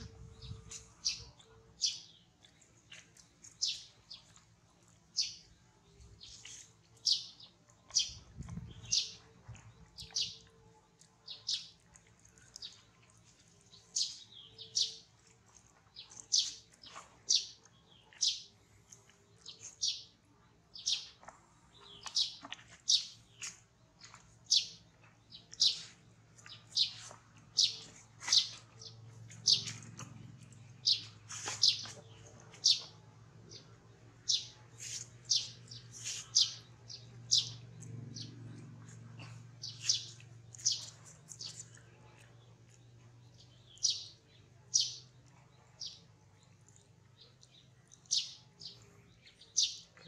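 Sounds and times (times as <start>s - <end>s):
small bird chirping: 0.0s - 4.4s, 5.1s - 50.0s.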